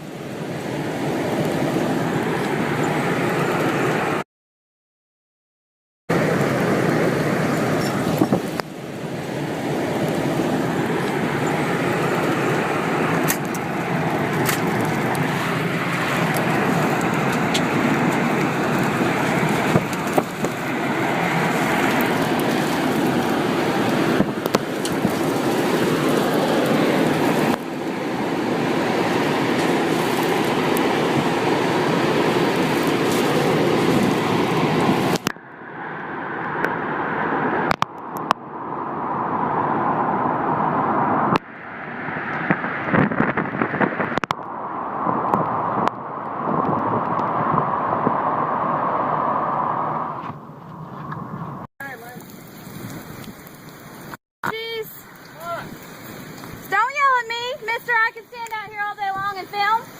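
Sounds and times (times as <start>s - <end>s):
strong wind roaring: 0.0s - 4.2s, 6.1s - 57.9s.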